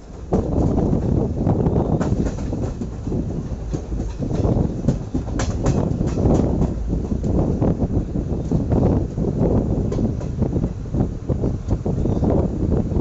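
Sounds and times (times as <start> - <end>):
train rumbling: 0.0 - 13.0
wheels clicking over rail joints: 0.0 - 13.0.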